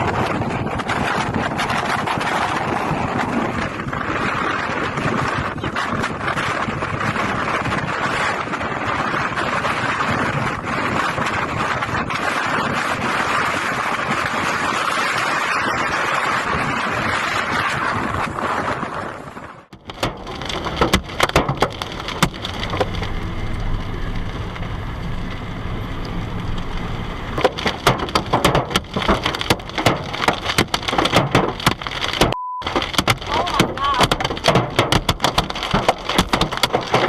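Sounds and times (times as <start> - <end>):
heavy rain on hard surface: 0.0 - 37.0
storm wind on microphone: 0.0 - 37.0.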